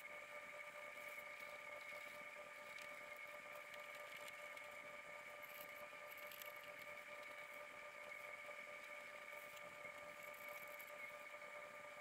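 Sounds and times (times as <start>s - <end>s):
faint electrical whine: 0.0s - 12.0s.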